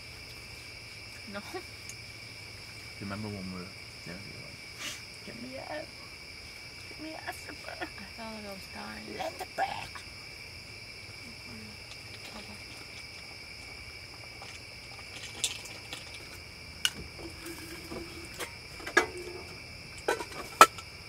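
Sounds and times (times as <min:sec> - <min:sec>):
crickets chorus: 0:00.0 - 0:21.0.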